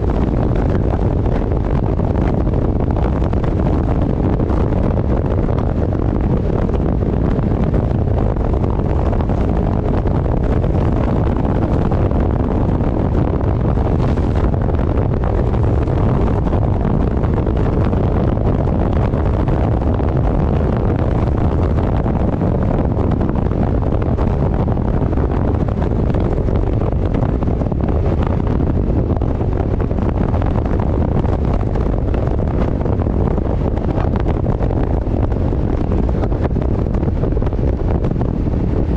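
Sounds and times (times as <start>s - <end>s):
road noise: 0.0s - 38.9s
wind buffeting microphone: 0.0s - 38.9s.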